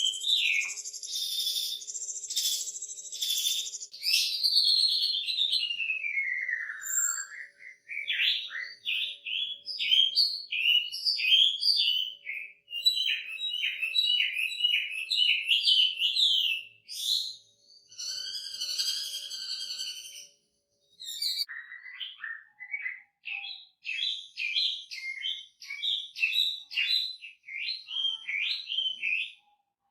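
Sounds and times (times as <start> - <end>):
bird singing whistles: 0.0 - 29.5.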